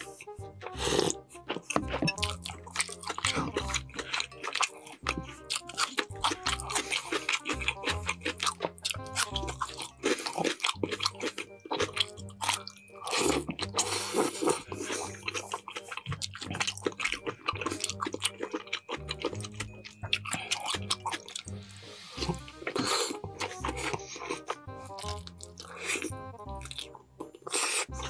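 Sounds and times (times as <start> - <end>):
background music: 0.0 - 28.0
close chewing: 0.0 - 28.0.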